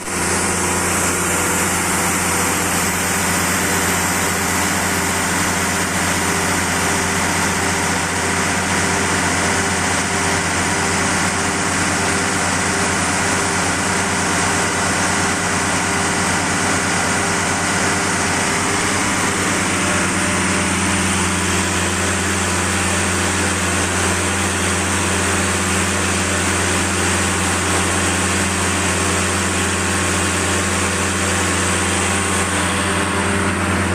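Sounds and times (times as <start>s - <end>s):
engine drone: 0.0s - 33.9s.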